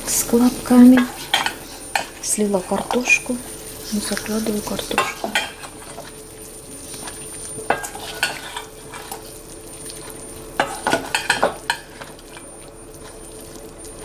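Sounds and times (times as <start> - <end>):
soup boiling and bubbling: 0.0 - 14.0.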